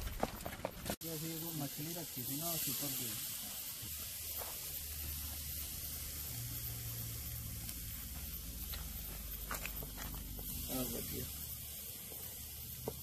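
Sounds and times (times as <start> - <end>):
meat sizzling on a charcoal grill: 0.9 - 13.0.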